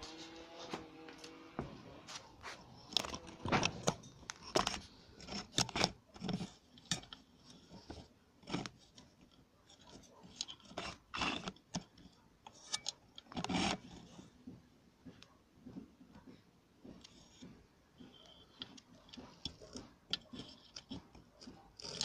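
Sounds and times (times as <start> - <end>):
hard materials knocking and scraping: 0.0 - 22.0.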